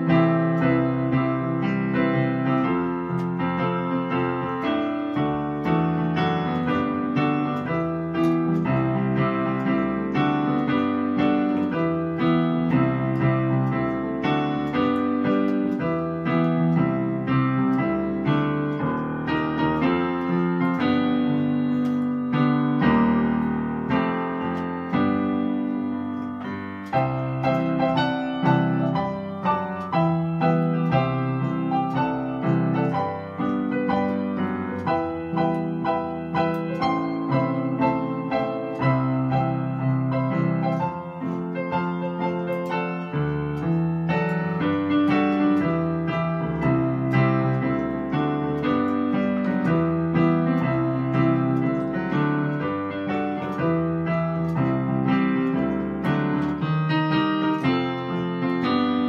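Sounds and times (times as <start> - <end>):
piano melody over chords: 0.0 - 59.0.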